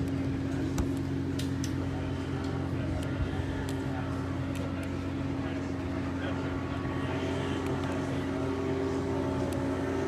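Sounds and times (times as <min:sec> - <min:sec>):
low machinery hum: 0:00.0 - 0:10.0.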